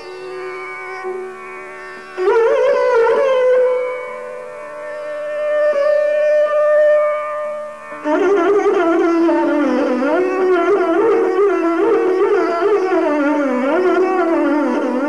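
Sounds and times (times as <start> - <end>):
bowed string instrument playing: 0.0 - 15.0.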